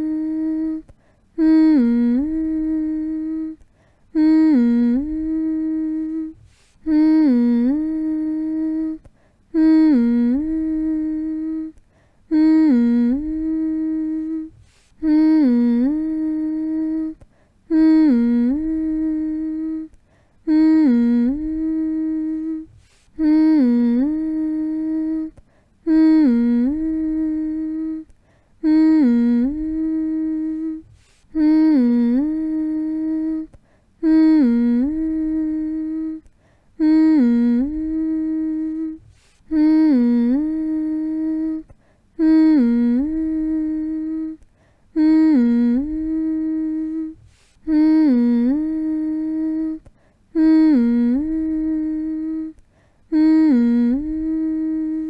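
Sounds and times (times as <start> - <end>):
person humming lullaby: 0.0 - 55.0.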